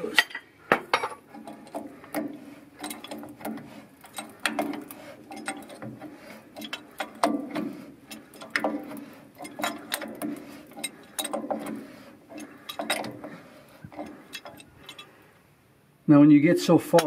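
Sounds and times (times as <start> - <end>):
pipe wrench ratcheting on metal: 1.3 - 15.2.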